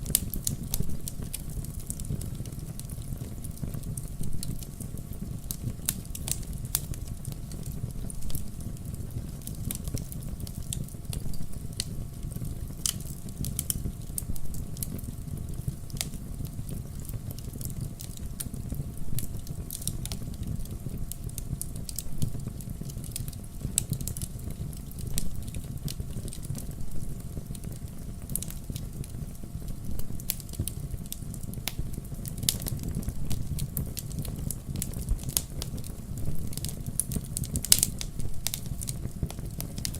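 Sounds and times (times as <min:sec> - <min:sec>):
burning wood crackling and popping: 0:00.0 - 0:39.9
campfire flames rumbling: 0:00.0 - 0:39.9.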